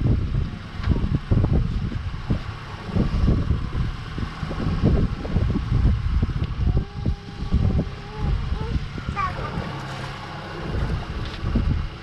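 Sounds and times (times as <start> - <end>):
motorboat engine running: 0.0 - 12.0
wind buffeting microphone: 0.0 - 12.0.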